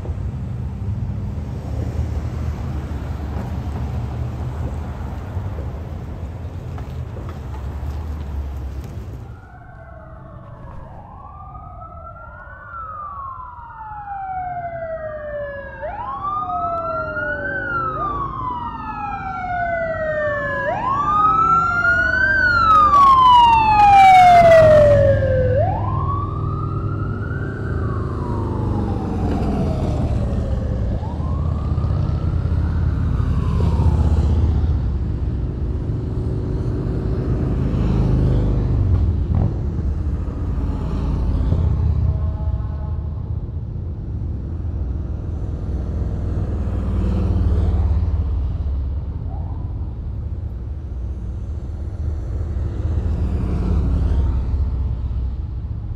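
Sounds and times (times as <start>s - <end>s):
vehicle engines rumbling: 0.0s - 55.9s
police sirens wailing: 6.7s - 43.5s, 44.5s - 55.9s.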